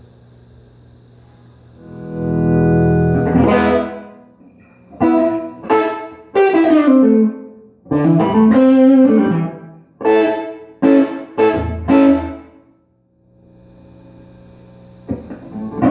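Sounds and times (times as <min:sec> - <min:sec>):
electric guitar chords: 0:01.8 - 0:12.7, 0:13.3 - 0:15.9.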